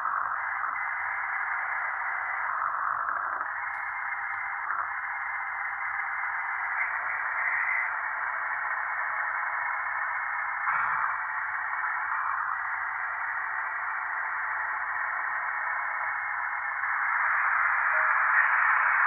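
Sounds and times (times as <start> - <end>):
static hiss: 0.0 - 19.0.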